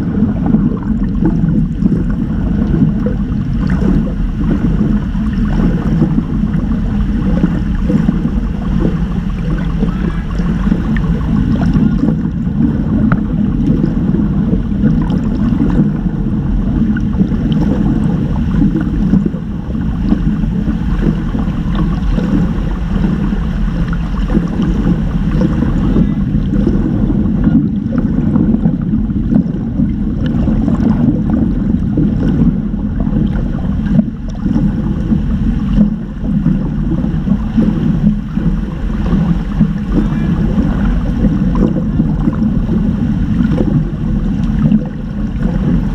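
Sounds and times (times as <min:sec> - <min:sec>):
muffled underwater churning: 0:00.0 - 0:45.9.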